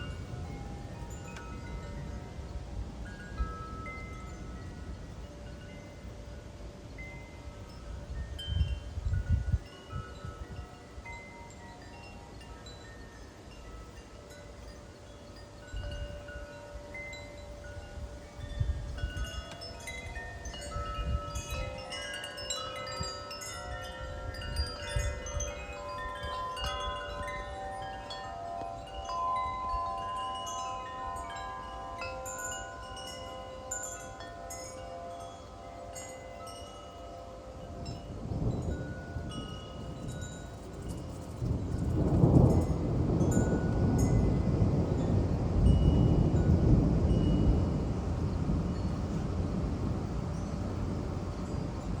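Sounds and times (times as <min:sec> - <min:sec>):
wind chimes ringing: 0:00.0 - 0:52.0
wind gusts on microphone: 0:00.0 - 0:52.0.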